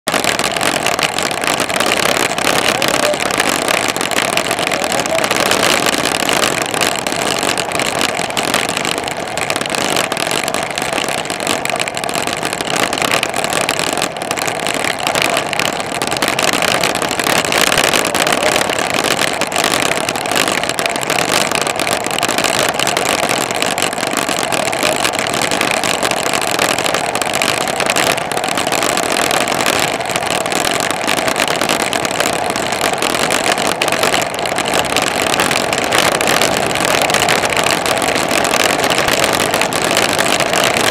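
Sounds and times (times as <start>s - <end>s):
tyre noise on asphalt: 0.0s - 40.9s.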